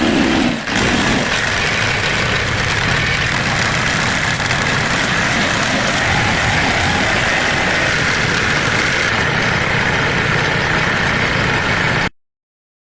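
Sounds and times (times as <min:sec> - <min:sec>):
motor running with low rumble: 0:00.0 - 0:12.1.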